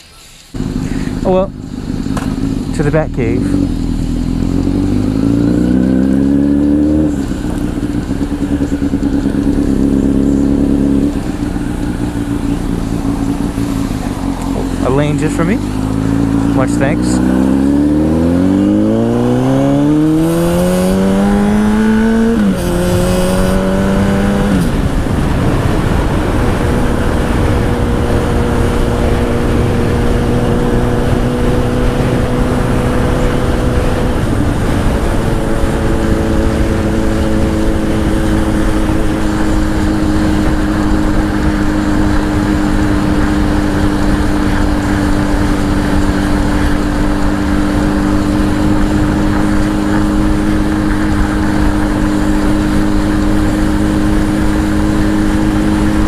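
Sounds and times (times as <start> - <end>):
motorcycle engine accelerating: 0.5 - 56.0
wind rush: 4.7 - 56.0.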